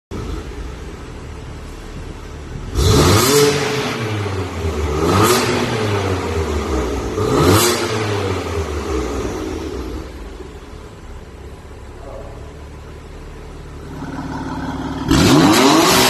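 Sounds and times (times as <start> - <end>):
car engine idling and revving: 0.1 - 16.0.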